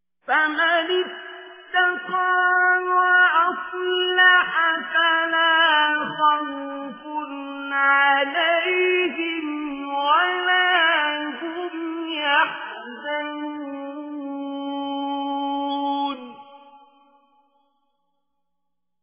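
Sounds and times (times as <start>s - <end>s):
person chanting recitation: 0.3s - 16.8s.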